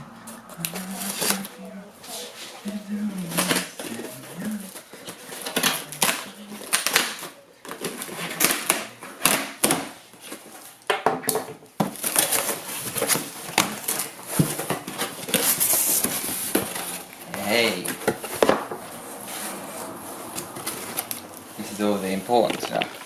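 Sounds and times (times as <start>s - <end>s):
cardboard and plastic rustling: 0.1s - 23.0s.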